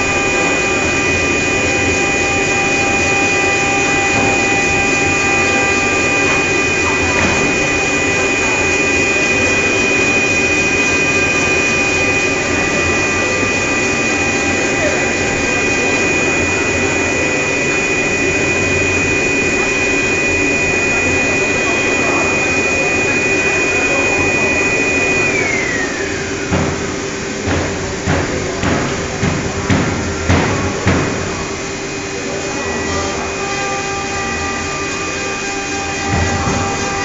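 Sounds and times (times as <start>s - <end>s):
electric motor whining: 0.0s - 27.4s, 31.2s - 37.0s.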